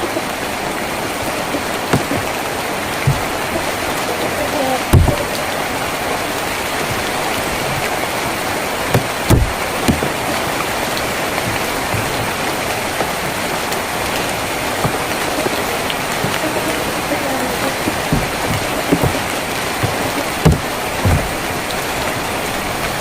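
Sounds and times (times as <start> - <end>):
rain on a tin roof: 0.0 - 23.0.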